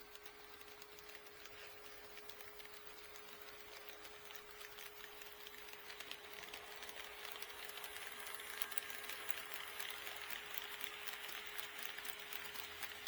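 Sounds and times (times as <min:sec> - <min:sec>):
model train humming: 0:00.0 - 0:13.0
wheels clicking over track: 0:00.0 - 0:13.0.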